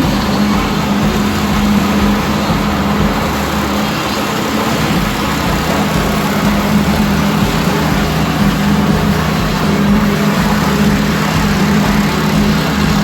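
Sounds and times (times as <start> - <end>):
machinery engine humming: 0.0 - 13.0.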